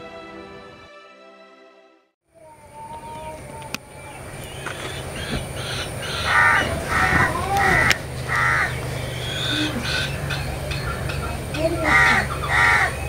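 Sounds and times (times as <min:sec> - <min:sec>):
bird calling: 0:02.4 - 0:13.0
steady low hum: 0:02.4 - 0:13.0.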